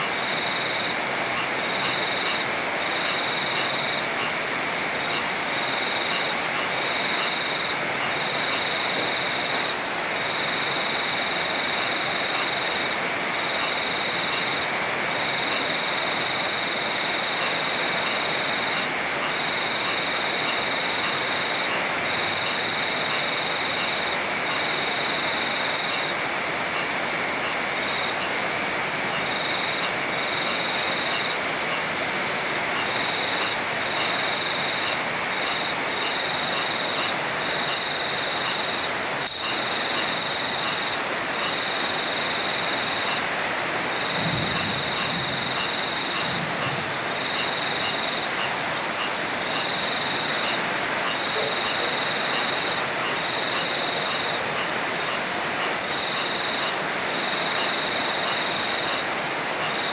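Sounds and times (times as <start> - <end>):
heavy rain: 0.0 - 59.9
rushing river: 0.0 - 59.9.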